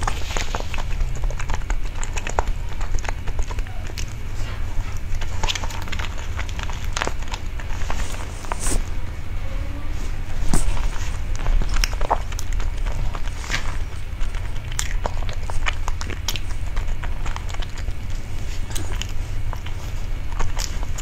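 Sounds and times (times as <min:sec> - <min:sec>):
person chewing with lip smacks: 0:00.0 - 0:09.1, 0:10.2 - 0:21.0
low rumble: 0:00.0 - 0:21.0.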